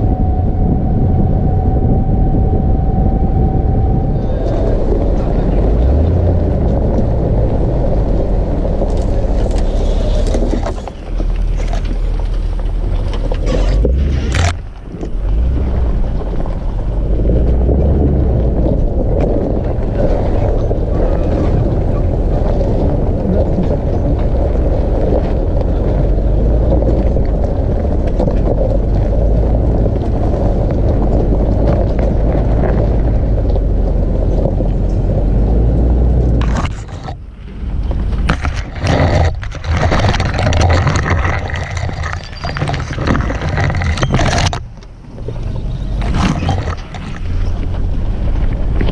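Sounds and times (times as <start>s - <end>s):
vehicle rumbling over gravel: 0.0s - 48.9s.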